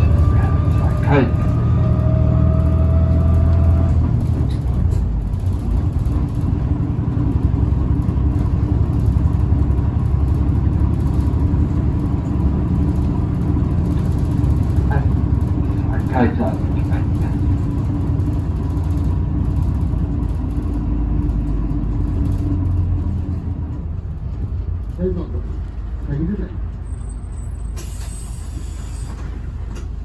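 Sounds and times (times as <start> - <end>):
bus rumbling: 0.0 - 30.0.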